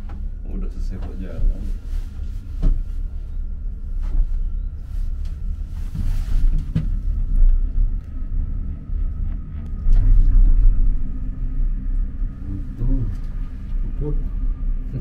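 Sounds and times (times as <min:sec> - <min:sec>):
faint steady whine: 0:00.0 - 0:15.0
gondola cabin rumbling: 0:00.0 - 0:15.0.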